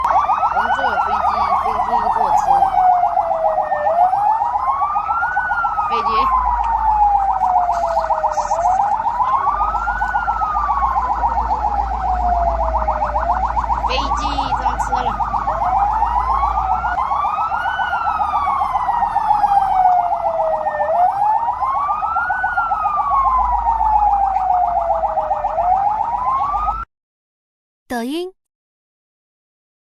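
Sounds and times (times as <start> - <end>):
emergency siren wailing: 0.0 - 26.9.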